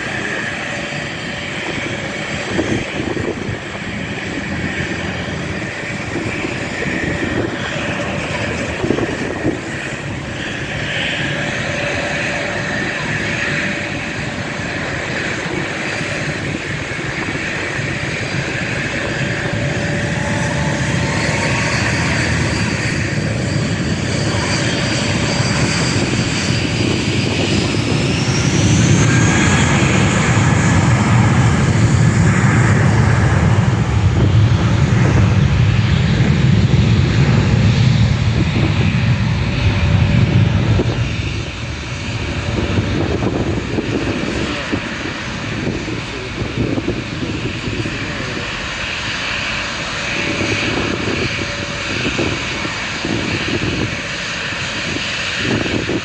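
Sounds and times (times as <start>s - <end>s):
jet engine roar: 0.0s - 56.0s
jet engine whine: 0.0s - 56.0s.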